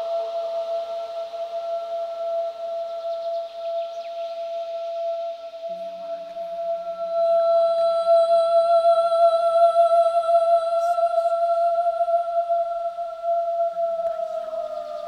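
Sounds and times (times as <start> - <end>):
faint higher tones: 0.0 - 15.0.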